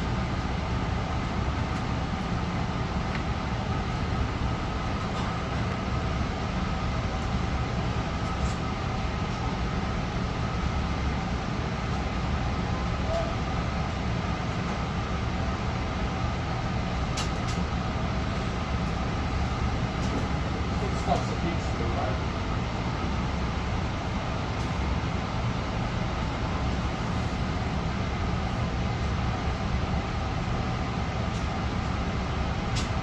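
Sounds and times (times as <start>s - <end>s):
electric train rumbling with whine: 0.0s - 33.0s.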